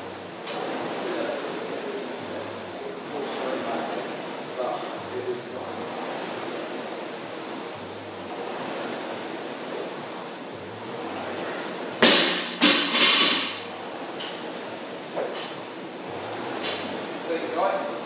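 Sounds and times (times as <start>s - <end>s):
loud rushing noise bursts: 0.0s - 18.0s
rowing machine flywheel whooshing: 0.0s - 18.0s.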